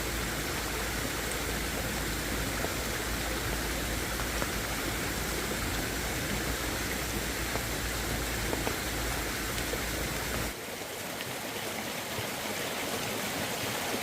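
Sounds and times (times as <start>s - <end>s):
water rushing: 0.0s - 14.0s.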